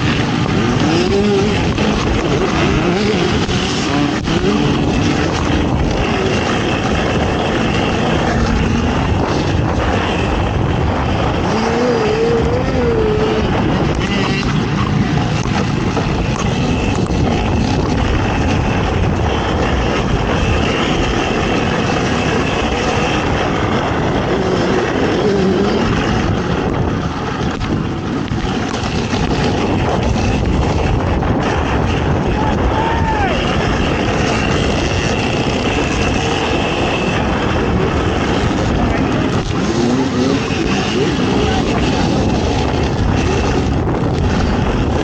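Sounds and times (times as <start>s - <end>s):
atv engine revving: 0.0s - 45.0s
rushing ride noise: 0.0s - 45.0s.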